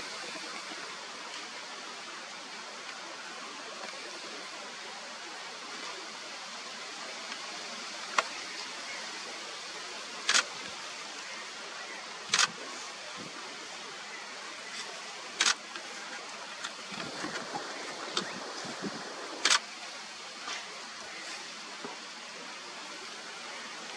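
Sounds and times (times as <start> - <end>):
steady outdoor hiss: 0.0 - 23.9.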